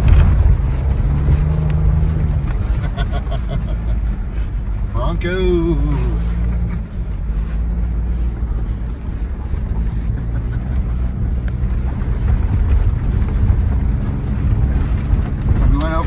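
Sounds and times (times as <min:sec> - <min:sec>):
engine and drivetrain rumble: 0:00.0 - 0:16.0.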